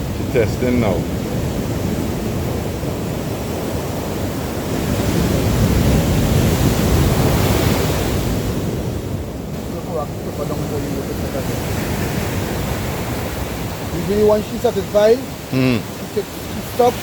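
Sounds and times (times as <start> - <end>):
surf washing on sand: 0.0 - 17.0
wind on microphone: 0.0 - 17.0.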